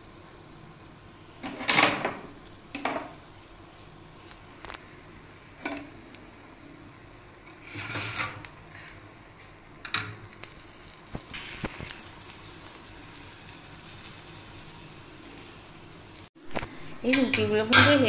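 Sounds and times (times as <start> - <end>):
low kitchen hum: 0.0 - 18.0.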